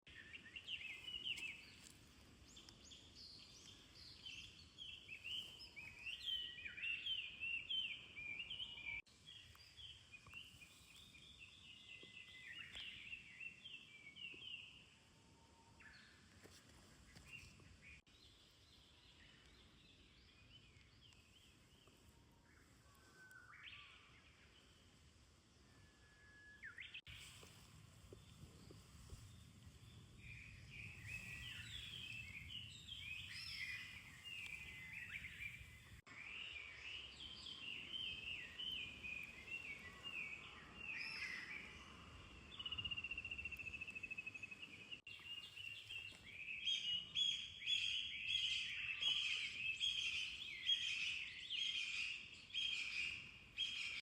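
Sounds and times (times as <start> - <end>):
faint songbirds chirping: 0.0 - 54.0
whistled bird notes: 2.5 - 16.2, 19.0 - 24.5, 25.6 - 27.3, 28.3 - 54.0.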